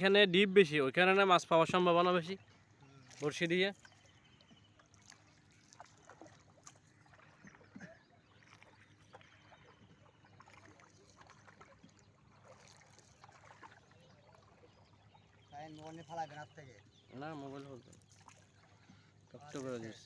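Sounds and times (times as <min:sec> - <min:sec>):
water lapping against hull: 0:00.6 - 0:20.0
small splashes: 0:02.4 - 0:20.0.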